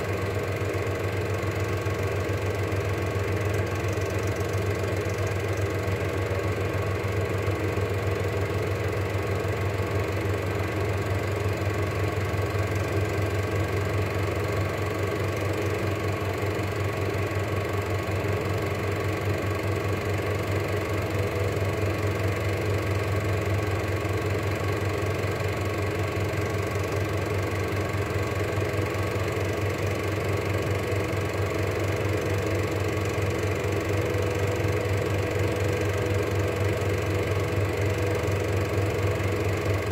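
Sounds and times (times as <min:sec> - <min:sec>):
film projector clatter: 0:00.0 - 0:39.9
projector motor hum: 0:00.0 - 0:39.9.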